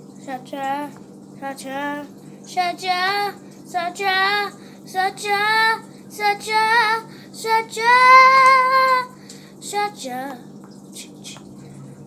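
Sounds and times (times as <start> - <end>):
steady low hum: 0.0 - 12.0
child singing wordless melody: 0.2 - 11.4.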